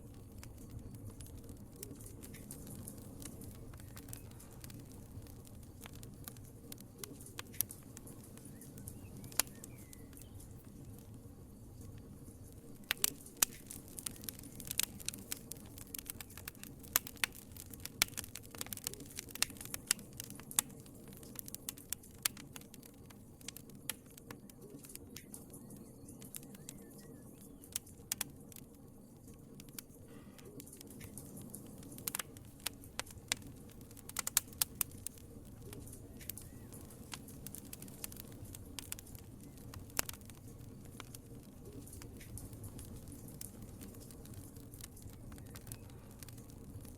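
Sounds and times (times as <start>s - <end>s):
hiss of burning: 0.0s - 46.9s
wood fire crackling and popping: 0.0s - 46.9s.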